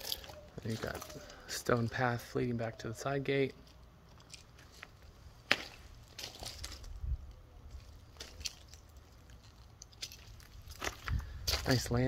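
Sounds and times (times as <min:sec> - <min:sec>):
footsteps crunching: 0:00.0 - 0:02.1, 0:04.2 - 0:12.0.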